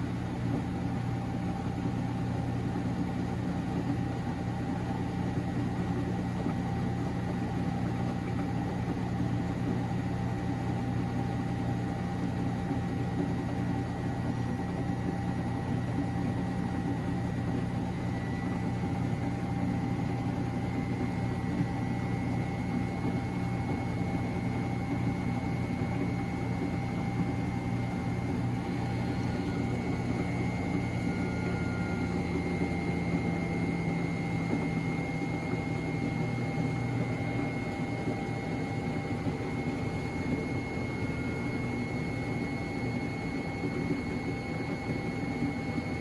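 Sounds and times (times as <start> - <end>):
washing machine motor hum: 0.0 - 46.0.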